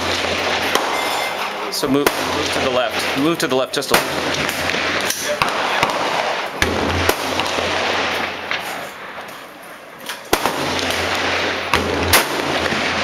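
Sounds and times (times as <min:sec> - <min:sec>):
rifle shots: 0:00.0 - 0:13.0.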